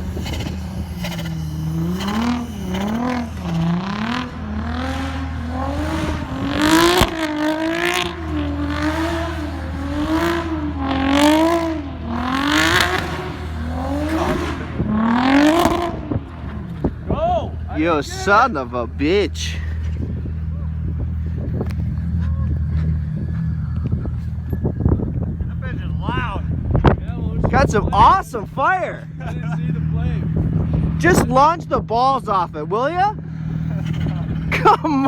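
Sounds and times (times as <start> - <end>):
loud rushes of noise: 0.0 - 32.4
car engine revving hard: 0.0 - 35.0.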